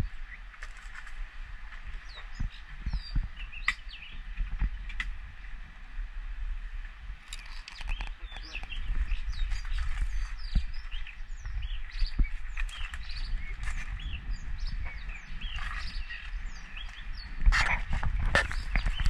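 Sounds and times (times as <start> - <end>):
birds chirping: 1.8 - 5.6, 7.2 - 19.0.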